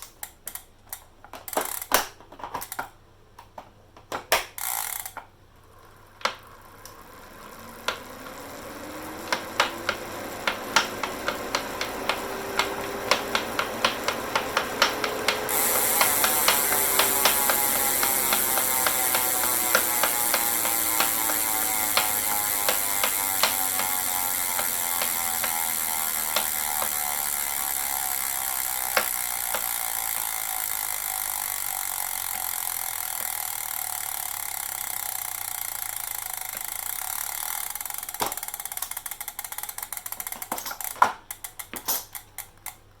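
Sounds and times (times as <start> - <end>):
freehub ratchet ticking: 4.5 - 42.8
flywheel whirring: 4.6 - 42.8.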